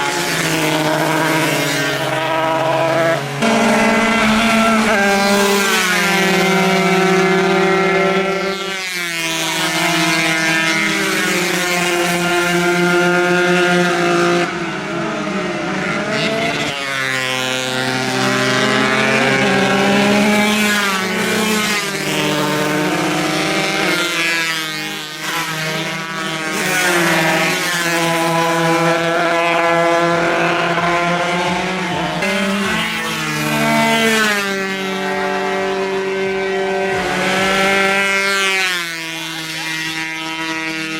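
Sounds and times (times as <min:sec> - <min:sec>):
two-stroke racing motorcycle engines: 0:00.0 - 0:40.9.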